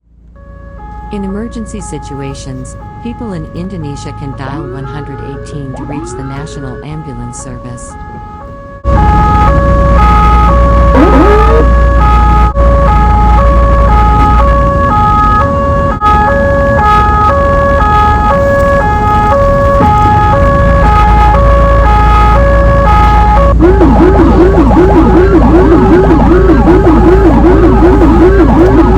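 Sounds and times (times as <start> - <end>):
steady low rumble: 0.0 - 28.9
ambulance siren: 0.3 - 28.9.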